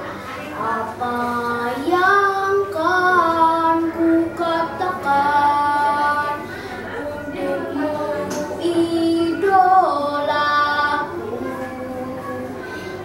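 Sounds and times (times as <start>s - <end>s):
boy singing: 0.5s - 13.0s.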